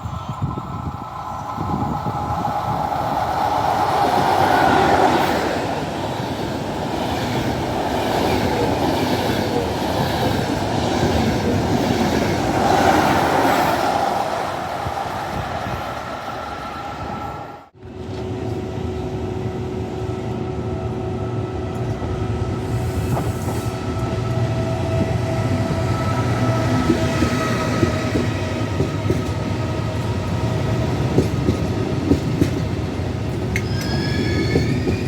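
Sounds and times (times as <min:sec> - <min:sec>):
train rolling on rails: 0:00.0 - 0:35.0.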